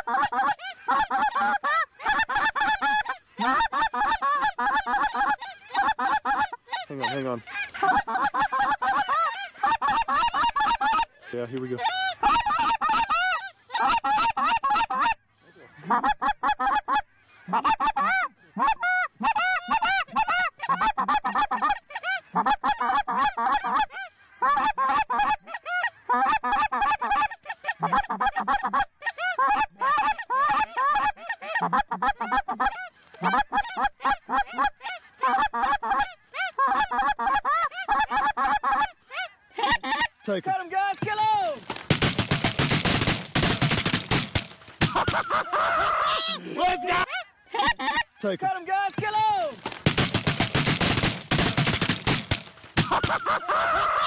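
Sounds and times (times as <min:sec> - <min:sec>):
geese honking and clucking: 0:00.0 - 0:54.0.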